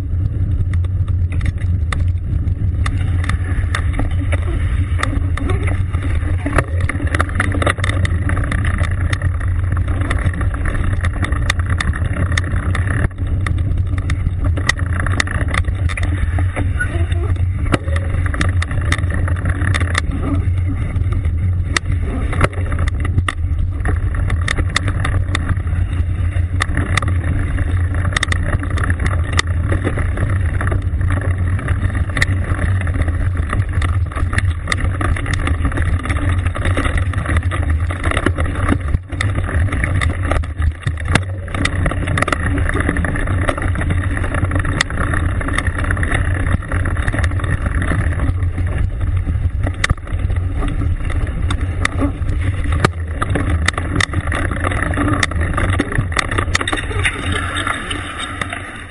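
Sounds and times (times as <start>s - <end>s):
bike rattles and knocks: 0.0s - 58.9s
wind buffeting microphone: 0.0s - 58.9s.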